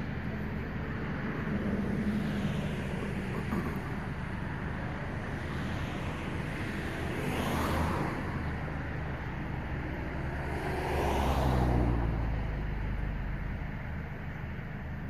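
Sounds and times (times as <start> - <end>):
vehicle road noise: 0.0 - 15.0.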